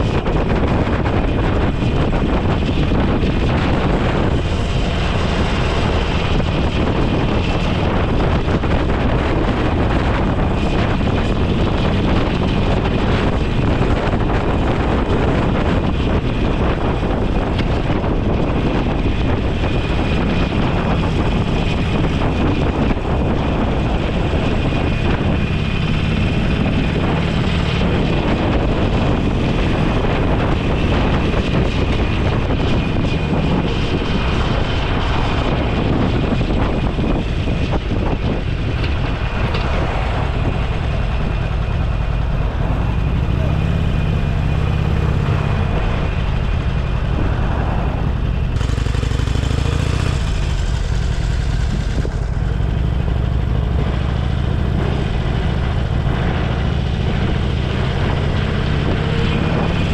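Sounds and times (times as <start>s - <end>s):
motorcycle engine hum: 0.0s - 59.9s
wind rushing across microphone: 0.0s - 59.9s.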